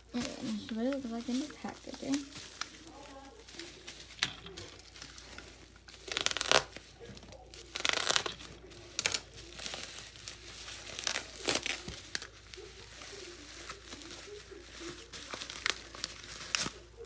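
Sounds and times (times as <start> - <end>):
packaging crinkled and torn: 0.0 - 17.0.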